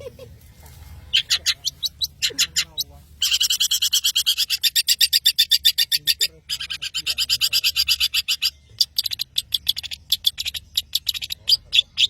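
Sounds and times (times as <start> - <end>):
shrike singing: 1.1 - 12.0.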